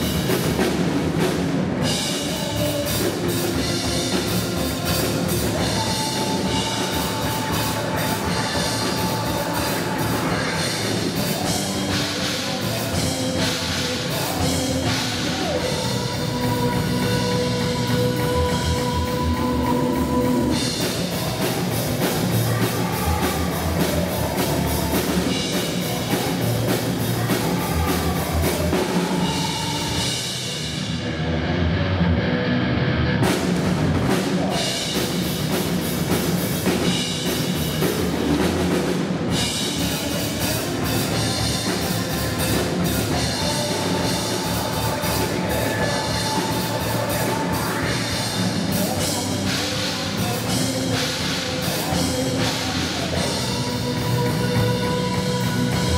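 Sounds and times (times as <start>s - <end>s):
drum kit played hard: 0.0s - 31.7s, 33.1s - 55.9s
heavy rock backing track: 0.0s - 55.9s.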